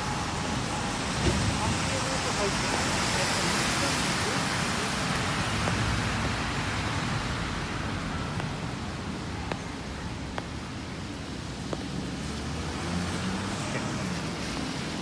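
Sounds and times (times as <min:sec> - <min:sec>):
rain hiss on wet road: 0:00.0 - 0:15.0.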